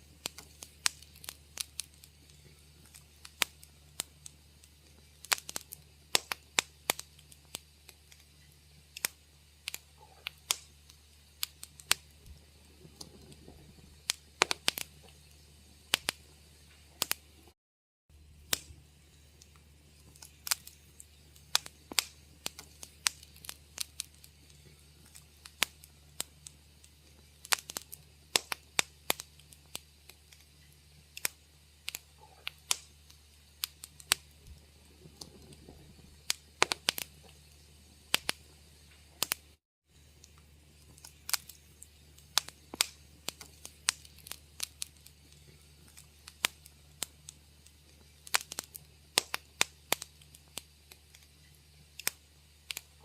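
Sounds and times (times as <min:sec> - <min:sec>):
wood fire crackling and popping: 0:00.0 - 0:17.6, 0:18.2 - 0:53.0
steady low hum: 0:00.0 - 0:53.0.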